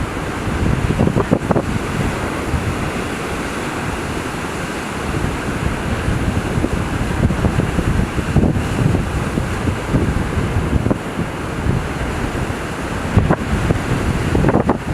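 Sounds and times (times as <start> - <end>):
ocean waves crashing: 0.0 - 14.9
wind buffeting microphone: 0.0 - 14.9.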